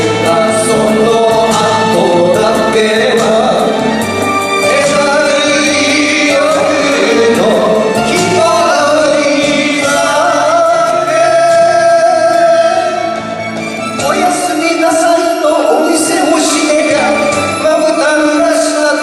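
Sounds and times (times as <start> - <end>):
man singing: 0.0 - 13.3, 14.0 - 19.0
instrumental accompaniment: 0.0 - 19.0.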